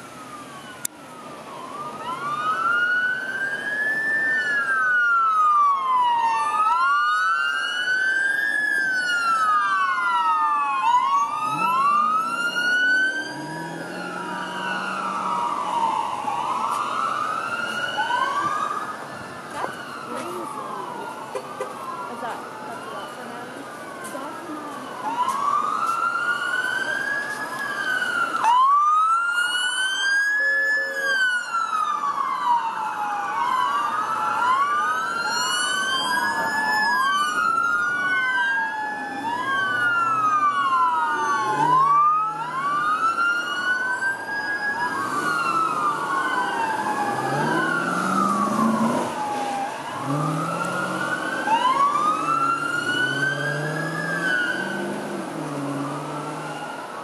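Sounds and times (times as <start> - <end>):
passing traffic: 0.0 - 57.0
police sirens wailing: 0.0 - 57.0.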